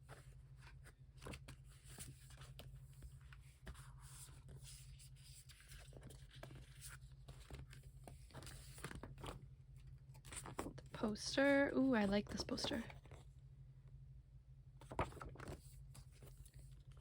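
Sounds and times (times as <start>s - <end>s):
paper and cardboard rustling: 0.0s - 13.3s, 14.8s - 17.0s
low steady hum: 0.0s - 17.0s.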